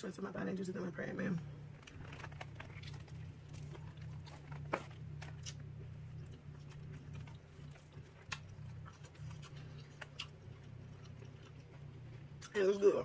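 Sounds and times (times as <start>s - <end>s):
steady low hum: 0.0s - 13.0s
person chewing with mouth closed: 1.8s - 12.6s.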